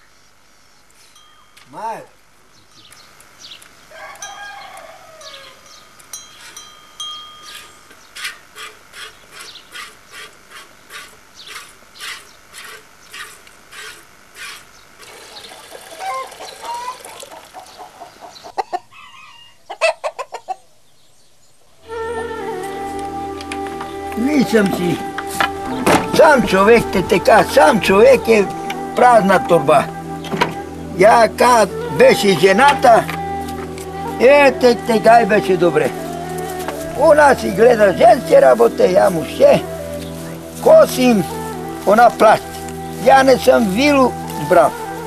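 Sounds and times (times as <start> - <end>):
poultry calling: 3.4 - 6.6, 7.4 - 20.8, 21.9 - 45.0.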